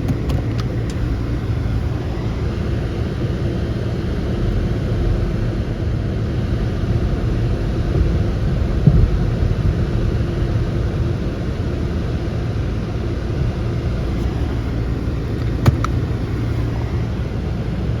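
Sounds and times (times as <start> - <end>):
car engine running steadily: 0.0 - 18.0.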